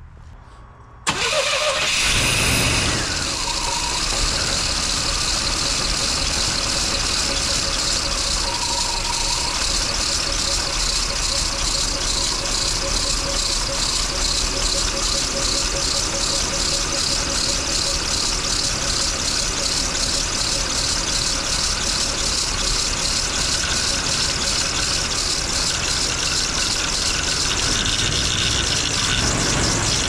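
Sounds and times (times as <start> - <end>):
pickup engine starting and idling: 1.1 - 30.0.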